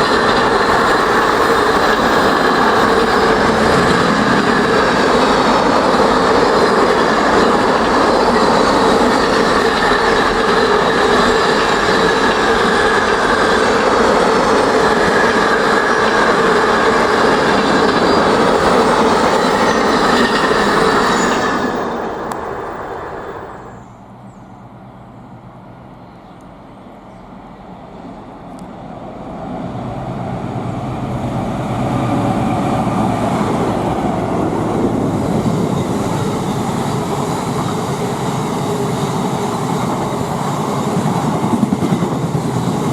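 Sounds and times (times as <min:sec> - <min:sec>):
freight train passing: 0:00.0 - 0:42.9
train approaching: 0:00.0 - 0:42.9.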